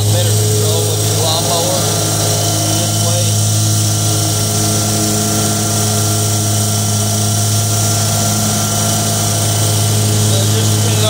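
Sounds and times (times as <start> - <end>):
mower engine running: 0.0 - 11.0.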